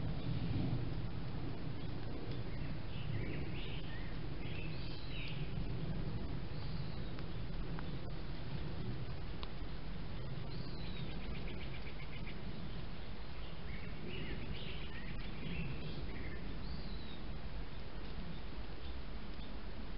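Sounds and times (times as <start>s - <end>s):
low background hiss and rumble: 0.0s - 19.9s
small birds singing: 0.0s - 19.9s.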